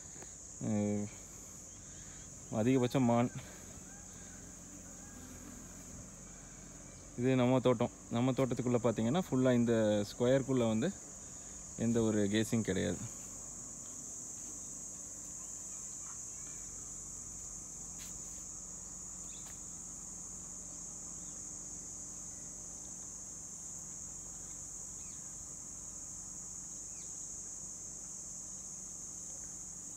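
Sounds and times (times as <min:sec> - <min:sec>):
insect chorus drone: 0:00.0 - 0:29.9.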